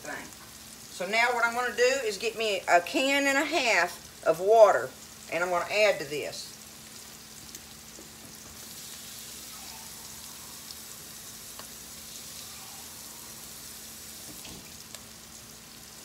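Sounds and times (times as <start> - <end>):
rice sizzling in oil: 0.0 - 4.2, 4.8 - 16.0.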